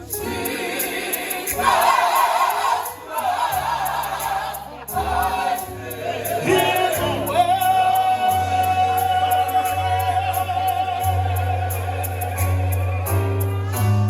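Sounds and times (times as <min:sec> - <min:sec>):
bass line: 0:00.0 - 0:14.0.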